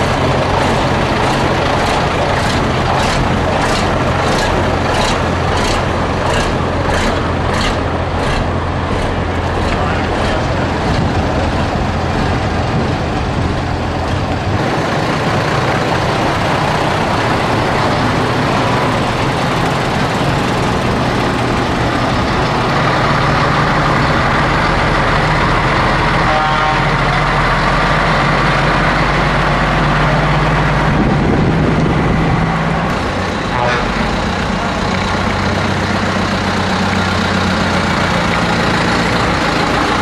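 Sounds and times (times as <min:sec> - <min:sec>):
diesel lorry engines driving past: 0:00.0 - 0:40.0.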